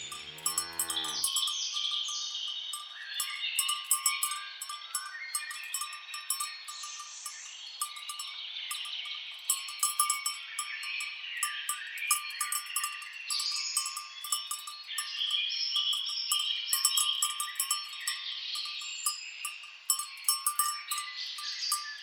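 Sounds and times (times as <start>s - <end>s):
birds chirping and warbling: 0.0s - 22.0s
cattle bells clinking: 0.0s - 22.0s.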